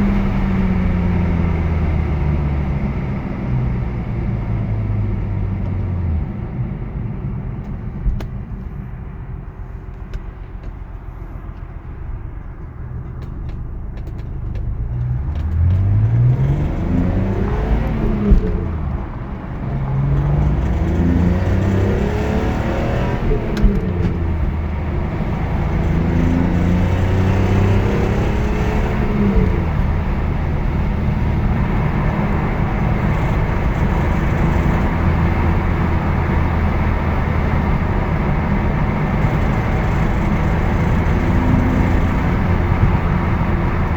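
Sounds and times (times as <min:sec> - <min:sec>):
car engine accelerating through gears: 0:00.0 - 0:43.9.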